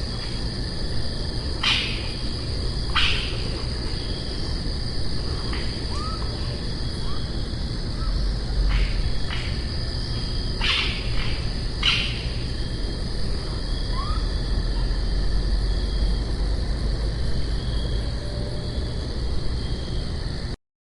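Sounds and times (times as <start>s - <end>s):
crickets trilling: 0.0s - 20.6s
low constant rumble: 0.0s - 20.6s.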